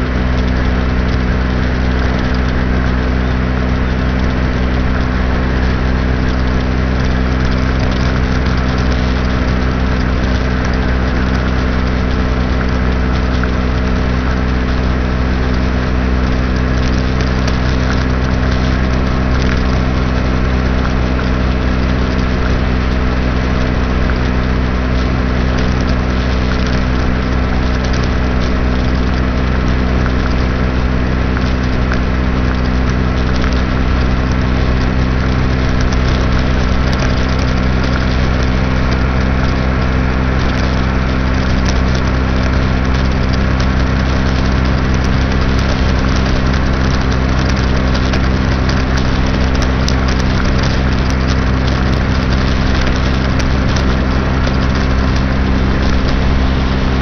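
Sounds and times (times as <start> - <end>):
moped engine cruising: 0.0 - 57.0
wind and road noise: 0.0 - 57.0.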